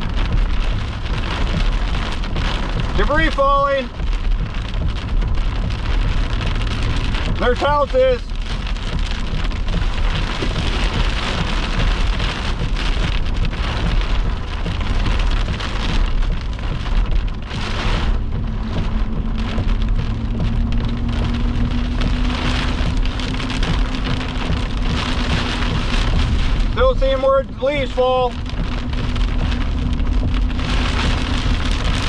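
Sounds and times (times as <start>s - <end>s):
heavy rain pelting a vehicle: 0.0s - 32.0s
steady low rumble: 0.0s - 32.0s
low steady hum: 3.5s - 32.0s.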